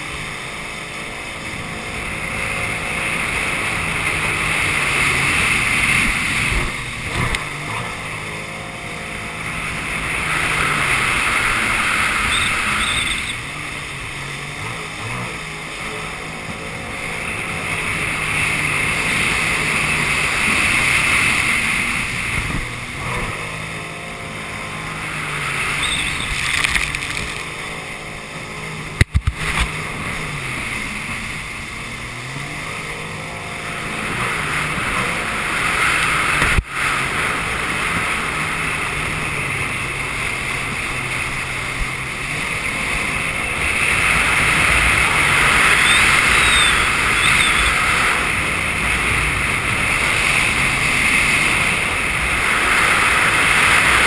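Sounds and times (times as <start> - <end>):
jet ski engine running: 0.0 - 54.0
water and wind rushing: 0.0 - 54.0.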